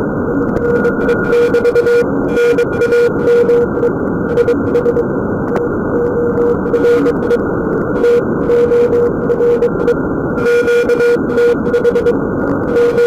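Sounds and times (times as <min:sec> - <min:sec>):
shortwave static hiss: 0:00.0 - 0:13.0
morse code beeping tone: 0:00.6 - 0:05.0, 0:06.0 - 0:13.0.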